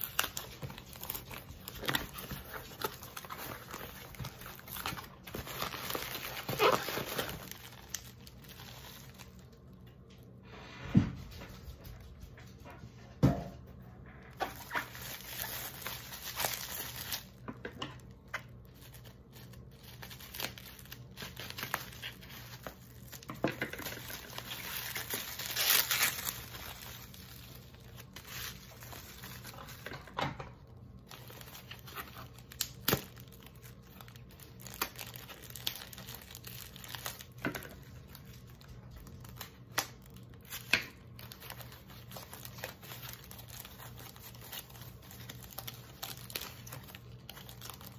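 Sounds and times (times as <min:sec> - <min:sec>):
bubble wrap crinkling: 0:00.0 - 0:10.6, 0:14.0 - 0:47.9.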